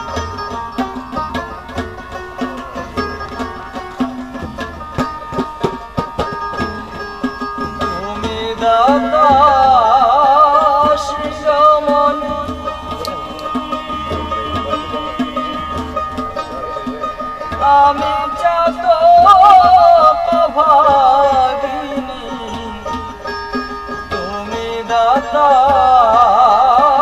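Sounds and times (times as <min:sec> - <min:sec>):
wavering vibrato melody: 0:00.0 - 0:25.9
harmonium tones: 0:00.0 - 0:27.0
plucked string instrument: 0:00.0 - 0:27.0
tabla strokes: 0:00.0 - 0:27.0.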